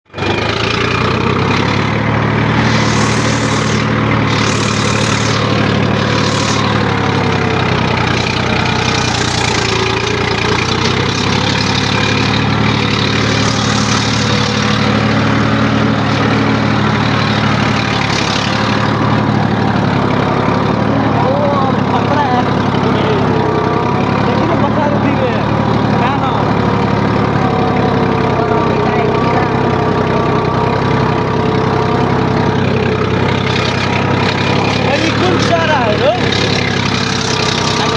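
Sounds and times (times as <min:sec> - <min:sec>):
tractor engine droning: 0:00.0 - 0:37.9.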